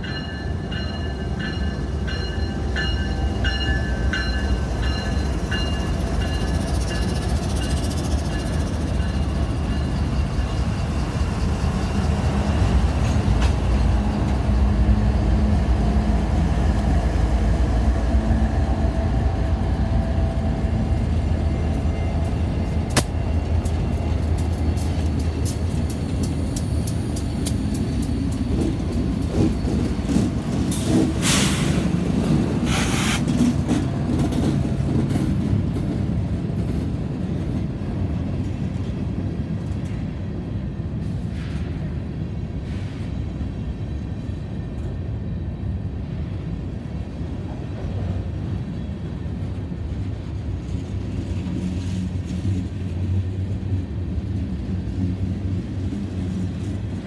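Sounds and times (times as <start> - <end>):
diesel locomotive rumbling: 0.0 - 57.0
wheels rumbling on rails: 0.0 - 57.0.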